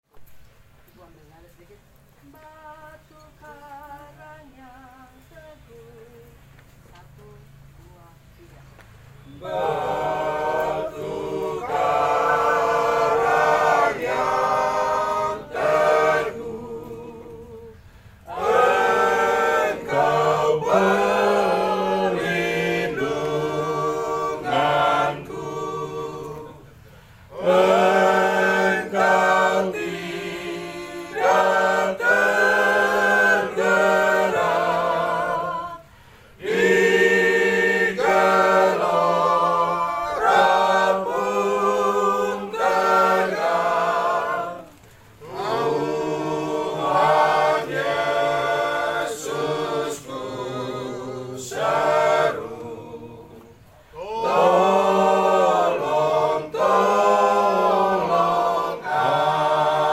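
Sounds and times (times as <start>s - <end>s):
choir singing unaccompanied: 2.2s - 6.3s, 9.1s - 59.9s.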